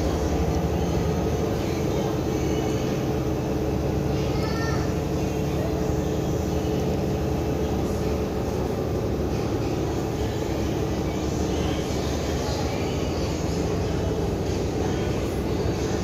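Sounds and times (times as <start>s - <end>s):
store interior rumble: 0.0s - 16.0s.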